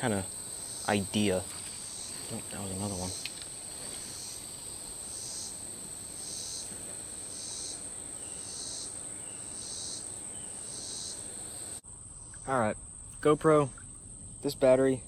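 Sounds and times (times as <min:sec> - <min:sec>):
insects buzzing: 0:00.0 - 0:15.0
low background hiss: 0:00.0 - 0:15.0
pulsing insect call: 0:00.0 - 0:15.0.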